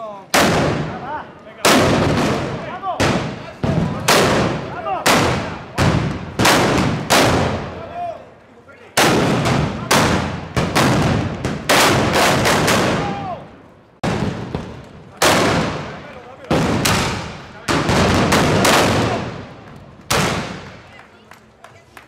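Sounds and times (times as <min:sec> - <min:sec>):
blank gunshots with echo: 0:00.3 - 0:07.9, 0:09.0 - 0:13.2, 0:14.0 - 0:20.8.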